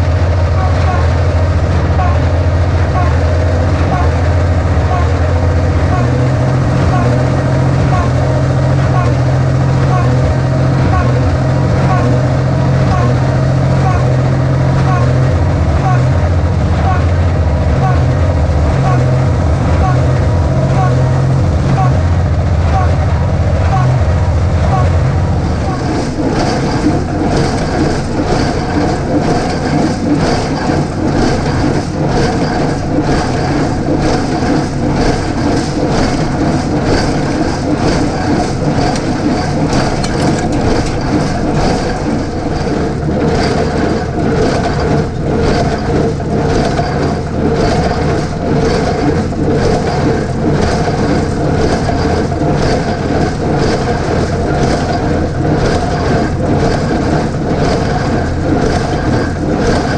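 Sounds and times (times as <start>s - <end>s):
diesel tractor running: 0.0s - 59.9s.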